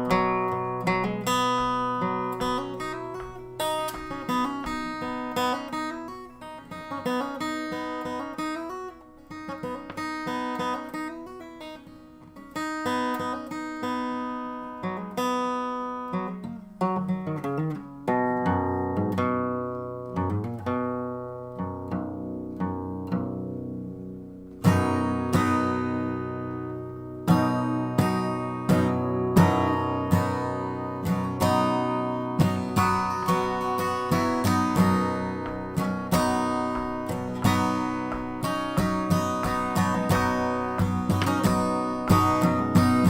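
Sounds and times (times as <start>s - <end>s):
acoustic blues guitar: 0.0s - 43.0s.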